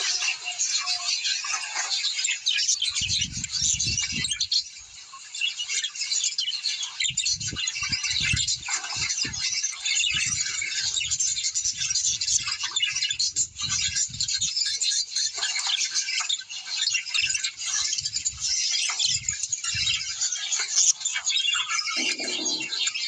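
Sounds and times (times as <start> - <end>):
flock of small birds chirping: 0.0 - 23.0.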